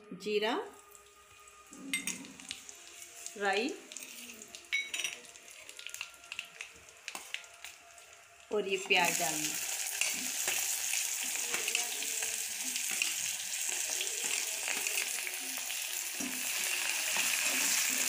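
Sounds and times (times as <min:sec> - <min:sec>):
onion sizzling in hot oil: 0:01.6 - 0:18.0.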